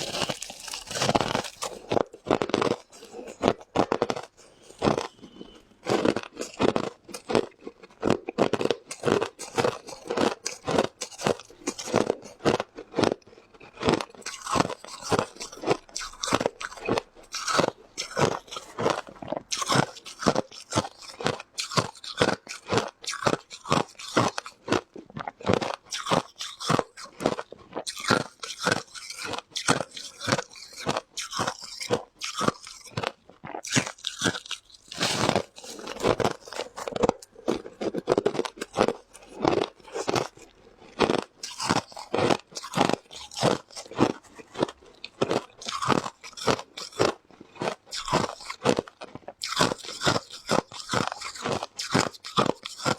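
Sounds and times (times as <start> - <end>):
ice crunching and chewing: 0.0 - 52.9.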